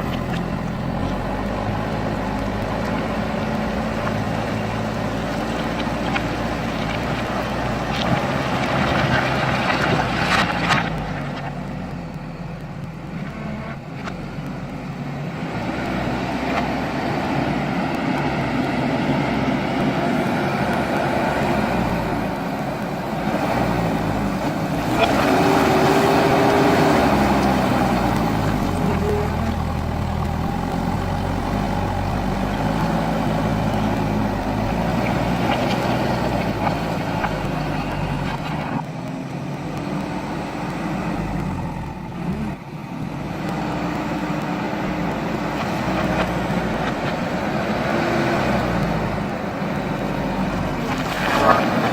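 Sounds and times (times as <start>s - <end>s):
diesel engine revving: 0.0s - 51.9s.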